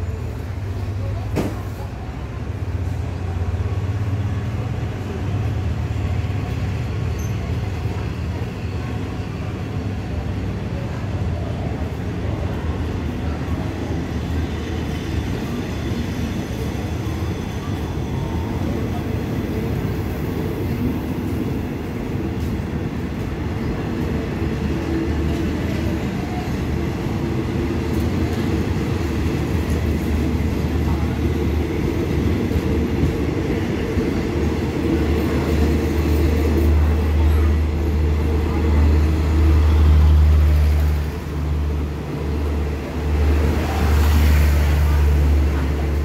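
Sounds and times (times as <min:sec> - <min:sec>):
diesel train engines idling: 0:00.0 - 0:46.0.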